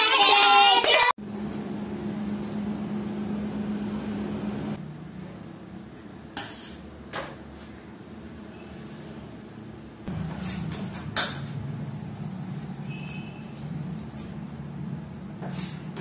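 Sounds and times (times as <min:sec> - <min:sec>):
kitchen machine hum: 0:00.0 - 0:16.0.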